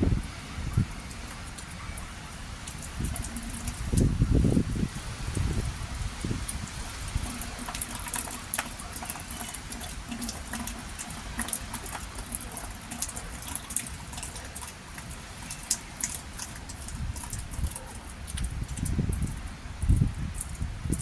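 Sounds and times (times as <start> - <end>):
rain hiss: 0.0 - 21.0
raindrops pattering: 0.0 - 21.0.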